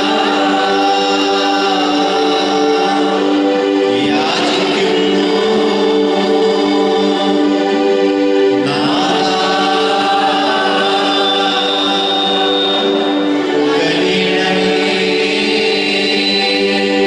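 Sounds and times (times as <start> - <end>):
choir singing a slow hymn: 0.0 - 17.0.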